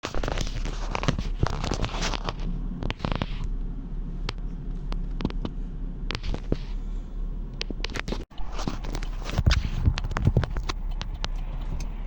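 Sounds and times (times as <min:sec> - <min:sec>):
car engine idling: 0:00.1 - 0:08.2, 0:08.8 - 0:12.0.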